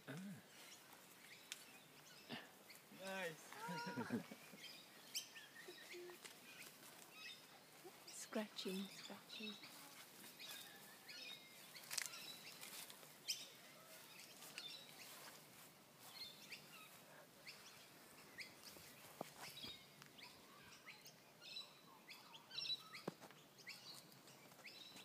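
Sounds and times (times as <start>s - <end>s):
faint bird chirps: 0.1s - 15.4s, 16.0s - 25.0s.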